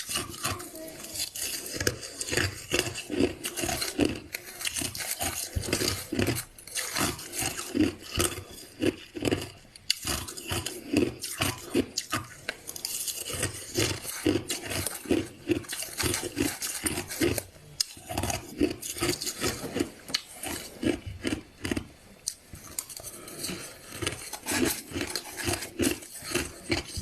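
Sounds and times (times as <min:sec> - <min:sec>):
person chewing crushed ice: 0:00.0 - 0:27.0.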